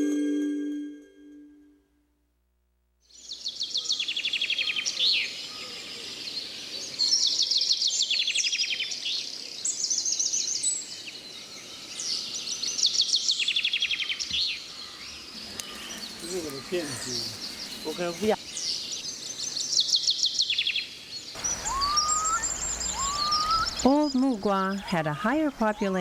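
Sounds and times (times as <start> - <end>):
faint outdoor background hiss: 2.2 - 26.0
songbird singing trills: 3.2 - 26.0.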